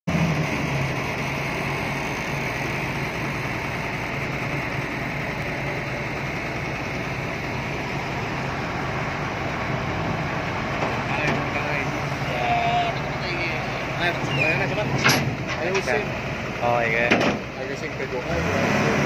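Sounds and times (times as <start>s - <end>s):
diesel engine throbbing: 0.1s - 19.0s.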